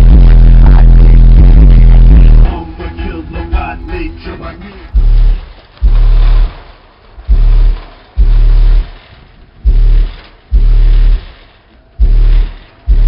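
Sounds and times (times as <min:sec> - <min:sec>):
deep bass hits from subwoofers: 0:00.0 - 0:13.0
harsh buzz over bass: 0:00.0 - 0:13.0.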